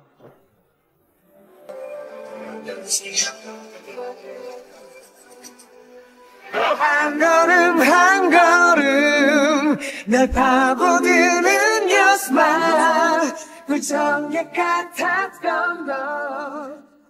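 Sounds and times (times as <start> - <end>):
person singing: 1.7 - 17.0.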